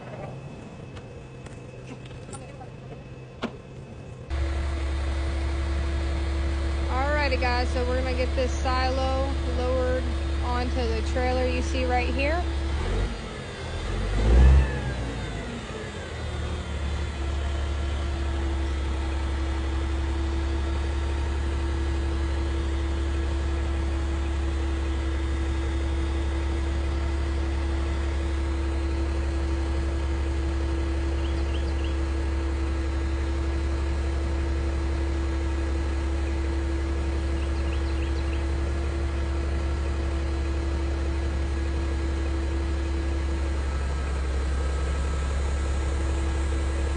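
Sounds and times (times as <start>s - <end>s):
heavy machine engine droning: 0.0s - 46.9s.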